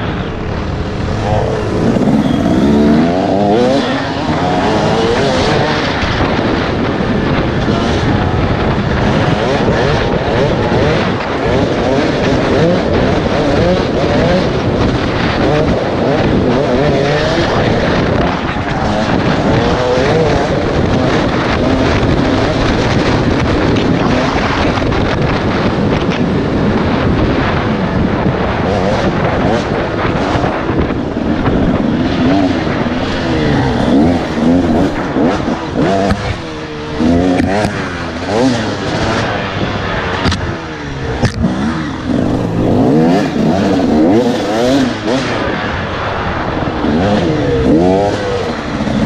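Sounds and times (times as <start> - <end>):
two-stroke motorcycle engine revving: 0.0 - 49.0.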